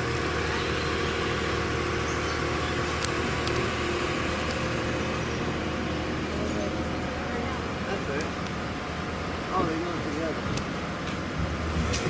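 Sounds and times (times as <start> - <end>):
street noise: 0.0 - 12.0
vehicle engine idling: 0.0 - 12.0.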